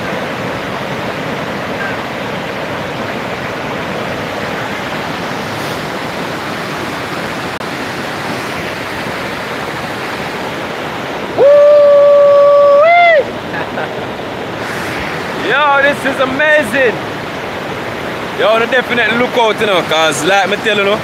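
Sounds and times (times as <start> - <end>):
river rushing over boulders: 0.0 - 21.0.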